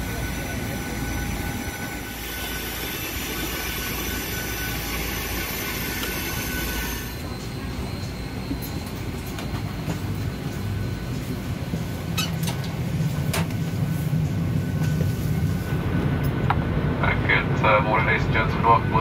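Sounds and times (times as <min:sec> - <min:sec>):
parked airliner whining hiss: 0:00.0 - 0:16.2.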